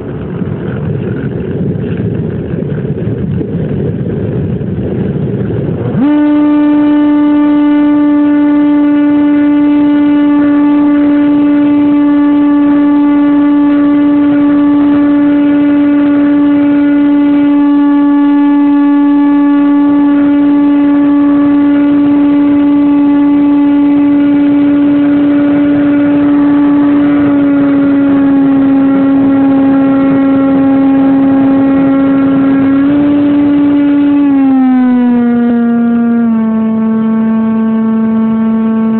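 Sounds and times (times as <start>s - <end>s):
model airplane motor droning: 5.8s - 38.9s.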